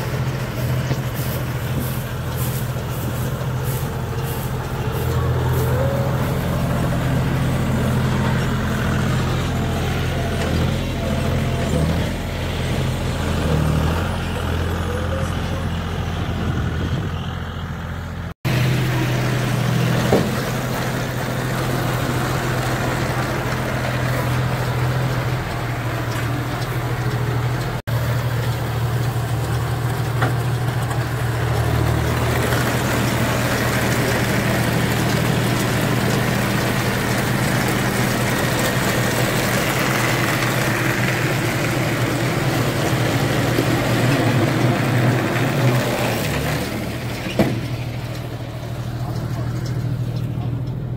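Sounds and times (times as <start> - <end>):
straw baler mechanism working: 0.0 - 50.9
tractor diesel engine running: 0.0 - 50.9.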